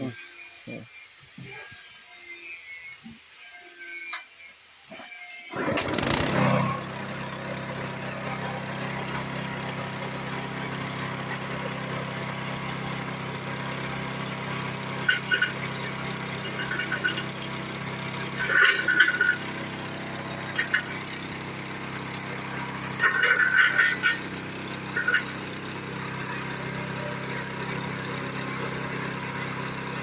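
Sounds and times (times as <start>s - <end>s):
pulping machine grinding brick: 5.4s - 30.0s.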